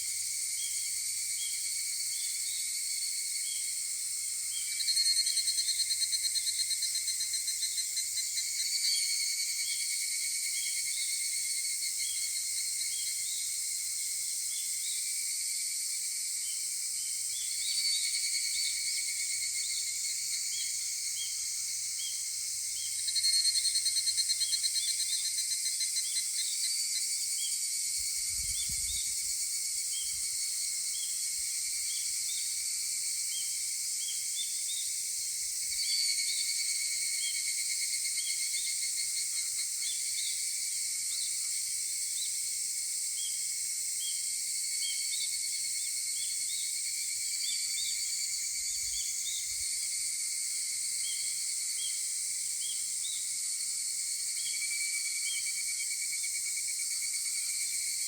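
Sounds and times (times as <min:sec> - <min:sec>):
background cicadas: 0:00.0 - 0:58.0
evening cicadas trilling chorus: 0:00.0 - 0:58.0.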